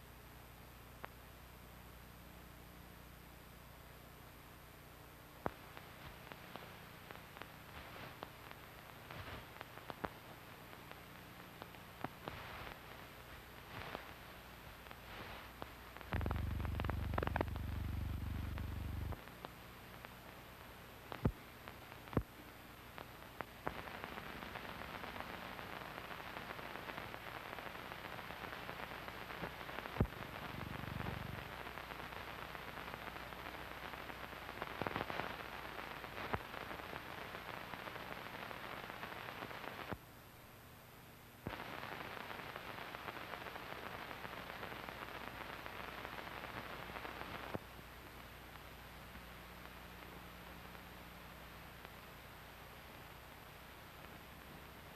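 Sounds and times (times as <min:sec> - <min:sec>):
film soundtrack hiss and crackle: 0:00.0 - 0:54.9.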